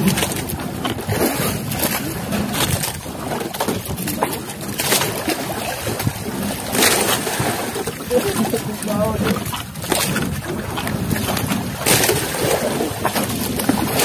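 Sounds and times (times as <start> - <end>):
sea water splashing against boat: 0.0 - 14.0.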